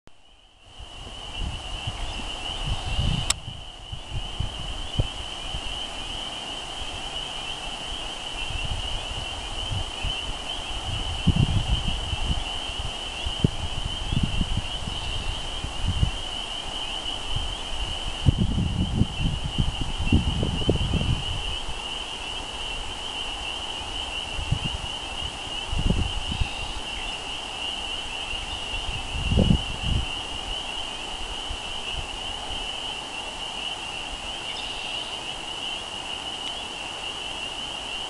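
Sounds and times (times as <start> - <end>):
chorus of frogs calling: 0.6 - 38.0
wind buffeting microphone: 0.7 - 34.4.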